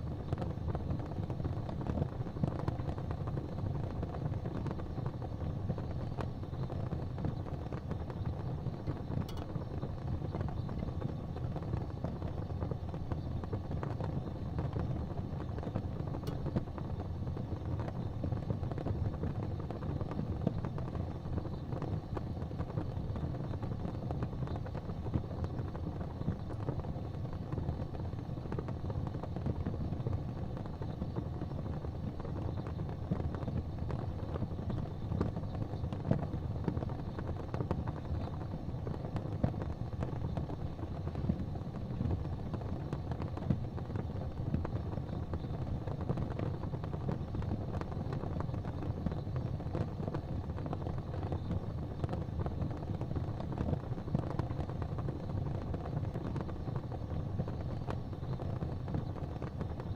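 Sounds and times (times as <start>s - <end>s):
fire pops: 0.0s - 59.9s
low fire rumble: 0.0s - 59.9s
wood fire crackling: 0.0s - 59.9s.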